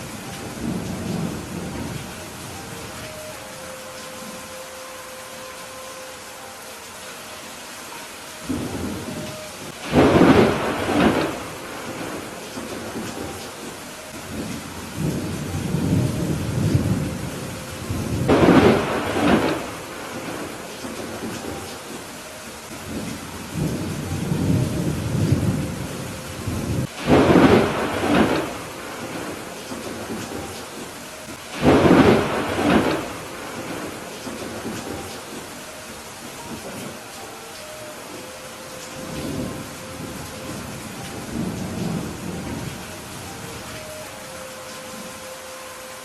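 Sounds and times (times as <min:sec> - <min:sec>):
thunder rumbling: 0:00.0 - 0:04.5, 0:08.4 - 0:37.1, 0:38.2 - 0:45.2
steady rain falling: 0:00.0 - 0:46.0.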